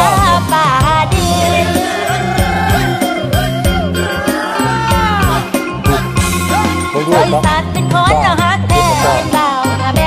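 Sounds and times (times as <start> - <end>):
instrumental song with bending melody: 0.0 - 10.0.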